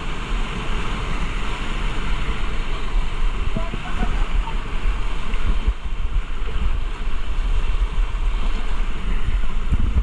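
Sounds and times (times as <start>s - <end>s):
rushing river whitewater: 0.0s - 10.0s
wind buffeting microphone: 0.0s - 10.0s.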